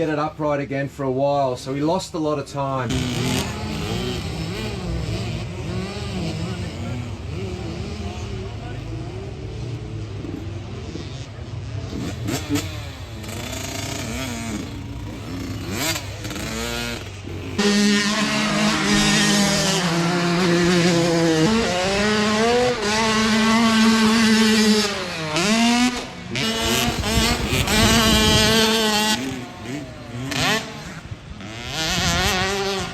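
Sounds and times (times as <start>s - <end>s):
motocross bike engines revving: 0.0s - 32.9s.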